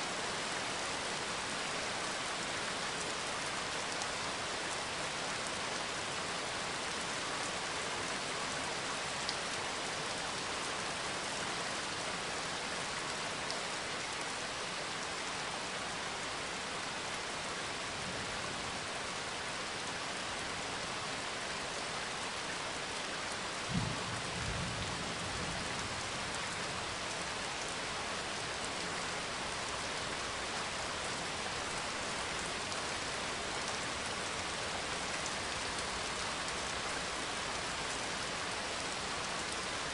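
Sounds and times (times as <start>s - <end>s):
steady rain-like hiss: 0.0s - 39.9s.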